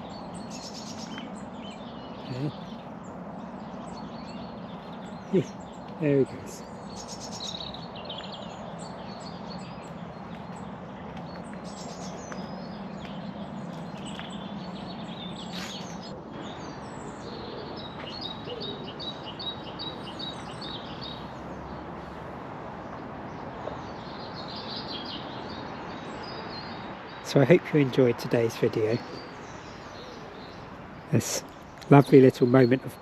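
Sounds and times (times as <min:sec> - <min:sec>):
songbirds singing: 0:00.0 - 0:33.0.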